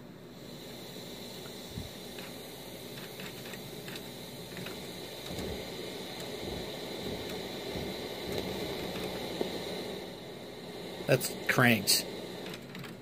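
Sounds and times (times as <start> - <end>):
amplifier hiss and hum: 0.0 - 13.0.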